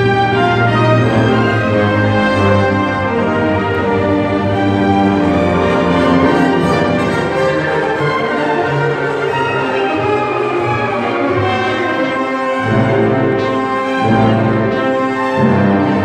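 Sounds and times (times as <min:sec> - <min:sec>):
symphony orchestra playing: 0:00.0 - 0:16.0.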